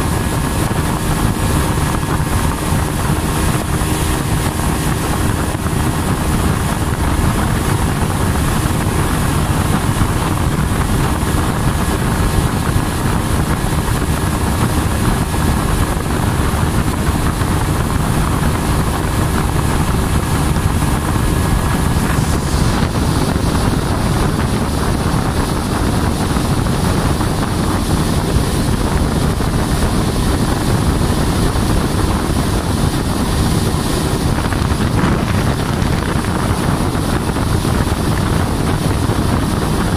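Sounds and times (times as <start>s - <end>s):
motorboat engine running: 0.0s - 39.9s
wind noise on microphone: 0.0s - 39.9s.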